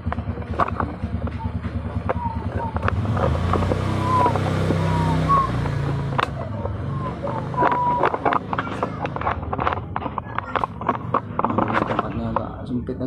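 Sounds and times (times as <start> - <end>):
clicks: 0.0 - 12.6
engine running: 0.0 - 13.0.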